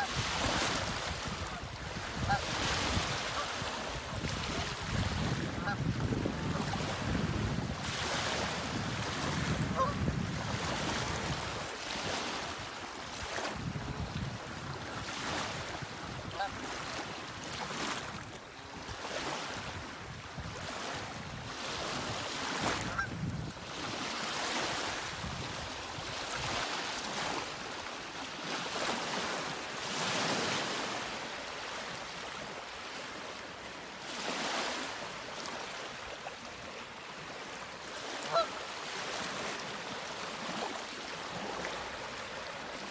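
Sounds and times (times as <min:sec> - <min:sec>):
wind and water rushing: 0:00.0 - 0:42.9.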